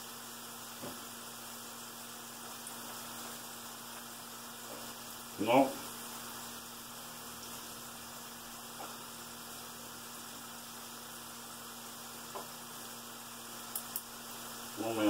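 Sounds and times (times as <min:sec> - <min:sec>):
electrical hum: 0:00.0 - 0:15.0
food sizzling in a skillet: 0:00.0 - 0:15.0.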